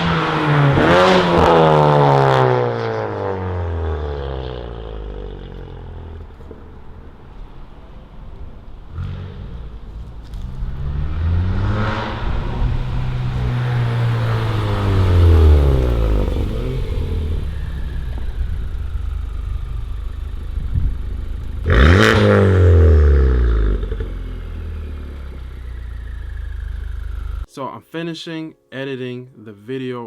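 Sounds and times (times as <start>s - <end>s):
car engine revving: 0.0s - 27.5s
exhaust crack: 0.0s - 27.5s.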